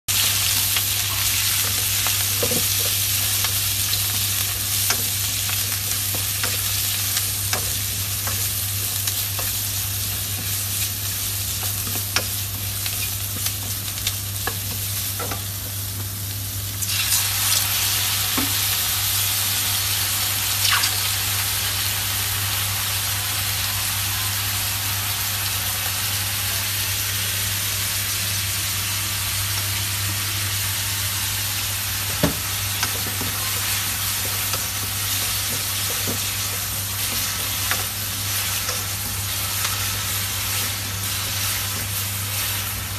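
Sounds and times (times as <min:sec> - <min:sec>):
food sizzling in a wok: 0:00.1 - 0:42.9.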